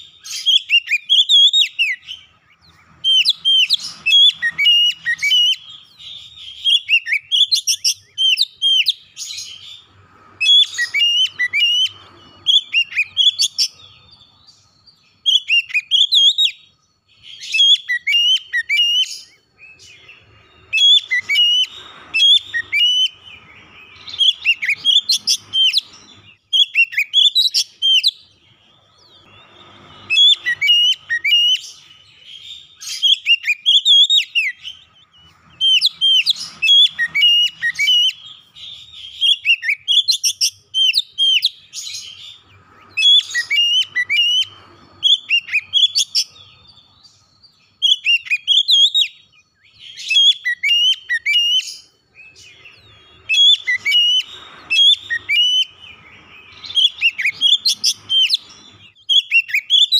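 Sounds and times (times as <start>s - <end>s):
bird singing whistles and trills: 0.0s - 59.9s.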